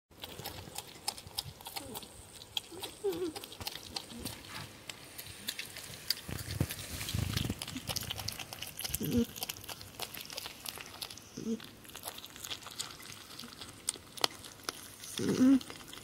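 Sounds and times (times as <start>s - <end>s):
chewing clicks: 0.2s - 16.0s.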